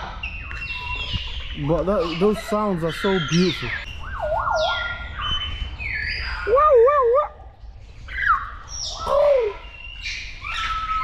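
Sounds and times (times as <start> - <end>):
birds whistling and warbling: 0.0 - 11.0.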